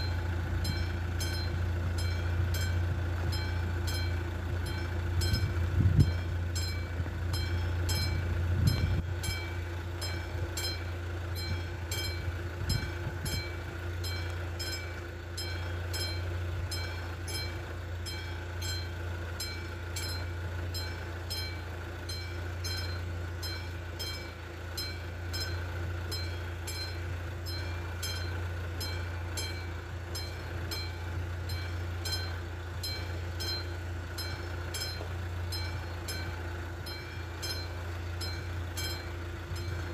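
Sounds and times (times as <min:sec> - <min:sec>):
level-crossing warning bell ringing: 0:00.0 - 0:39.9
steady low hum: 0:00.0 - 0:39.9.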